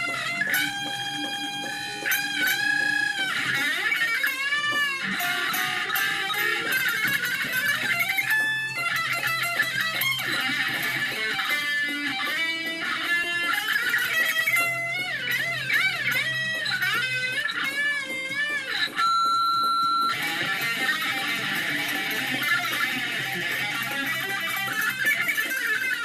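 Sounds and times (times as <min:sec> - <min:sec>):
electric guitar lead: 0:00.0 - 0:26.0.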